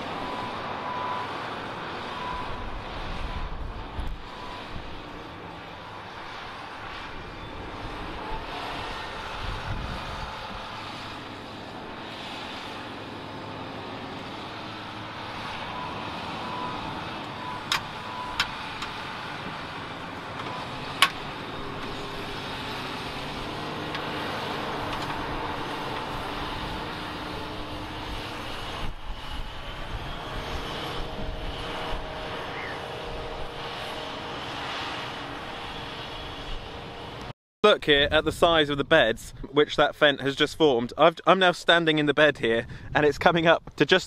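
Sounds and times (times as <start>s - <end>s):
tractor engine under load: 0.0s - 38.5s.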